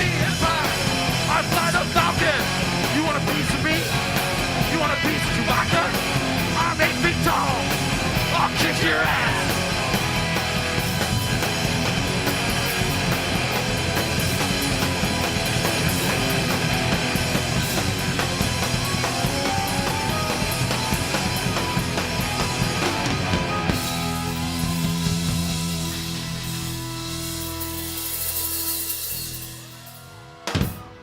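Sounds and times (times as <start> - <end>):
bass guitar: 0.0 - 31.0
drum kit: 0.0 - 31.0
electric guitar: 0.0 - 31.0.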